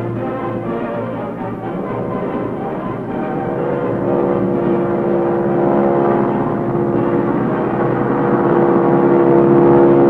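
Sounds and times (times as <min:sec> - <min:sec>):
propeller airplane engine droning: 0:00.0 - 0:10.0.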